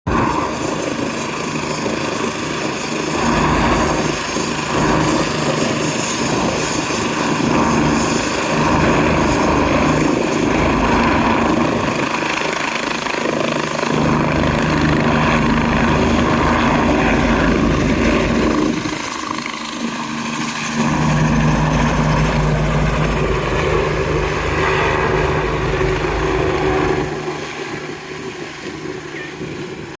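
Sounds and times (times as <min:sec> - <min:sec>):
helicopter turbine whine and rotor: 0:00.1 - 0:30.0.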